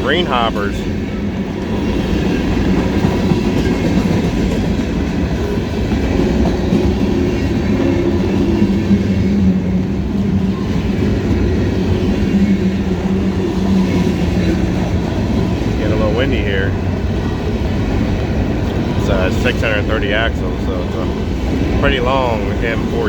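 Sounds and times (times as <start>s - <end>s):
freight train rumbling past: 0.0s - 23.0s
wheels clickety-clack: 0.0s - 23.0s.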